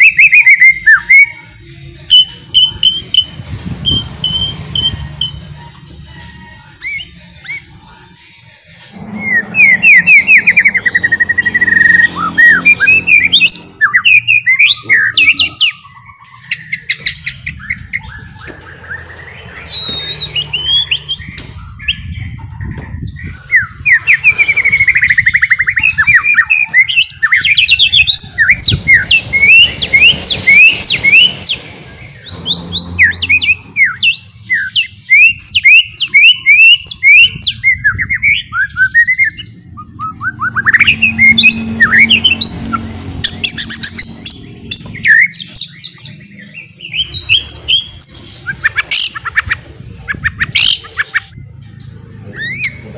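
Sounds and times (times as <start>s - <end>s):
bird singing rapid chirps: 0.0s - 52.9s.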